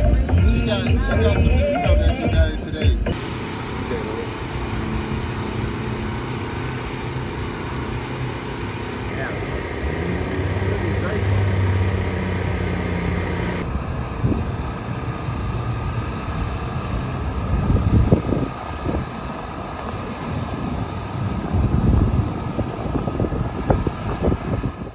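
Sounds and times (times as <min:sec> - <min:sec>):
road traffic: 0:00.0 - 0:24.9
steady machine hum: 0:03.0 - 0:24.0
wind gusting on microphone: 0:03.2 - 0:24.9.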